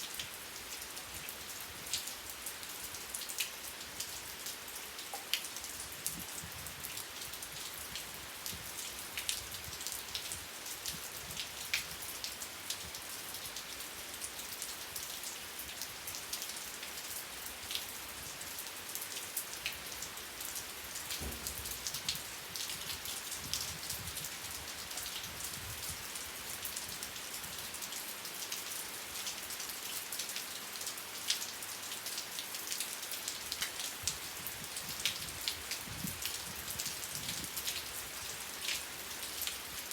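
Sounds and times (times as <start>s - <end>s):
raindrops ticking on a surface: 0.0s - 39.9s
steady rain: 0.0s - 39.9s.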